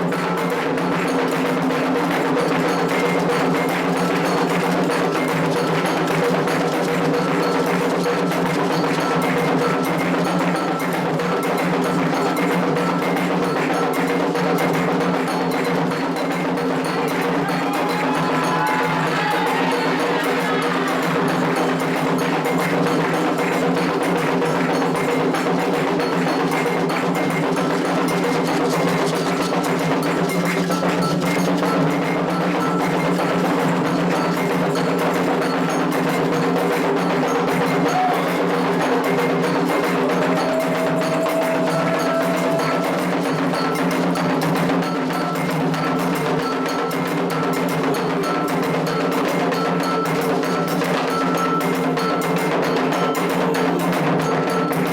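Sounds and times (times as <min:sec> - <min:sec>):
hand drums: 0:00.0 - 0:54.9
metal bell rhythm: 0:00.0 - 0:54.9.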